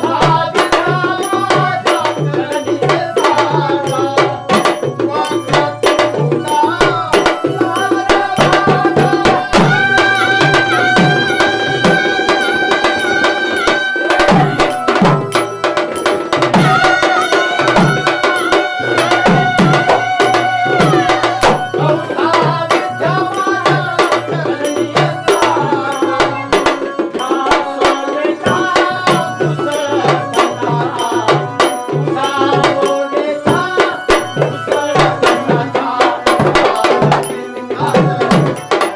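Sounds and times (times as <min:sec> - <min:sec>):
hand drum fast rhythm: 0:00.0 - 0:38.9.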